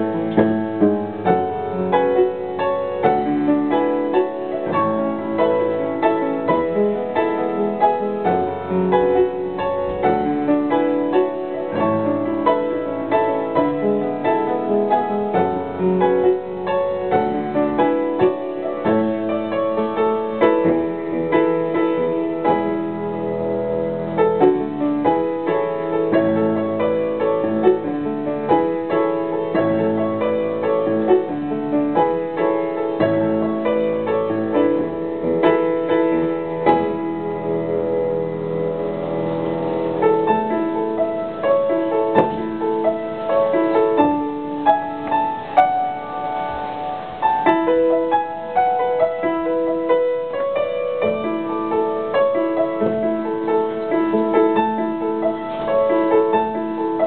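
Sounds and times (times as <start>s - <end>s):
upright piano playing: 0.0s - 57.0s.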